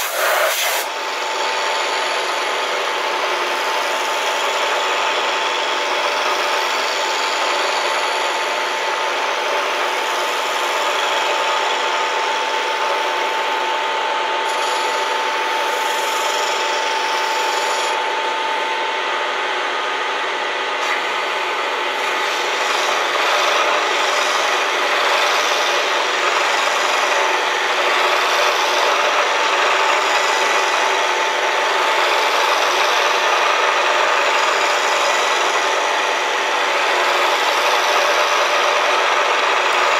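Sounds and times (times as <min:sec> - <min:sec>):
machine whine: 0:00.0 - 0:39.9
milling machine scraping metal: 0:00.0 - 0:39.9.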